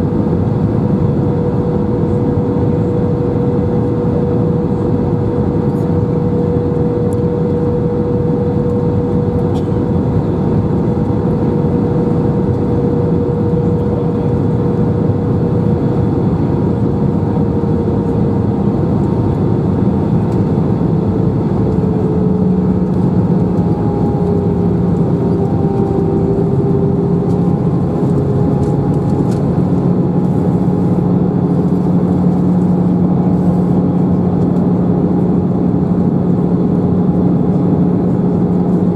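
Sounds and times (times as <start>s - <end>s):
jet engine rumble and airflow: 0.0s - 38.9s
engine hum tones: 1.9s - 38.9s.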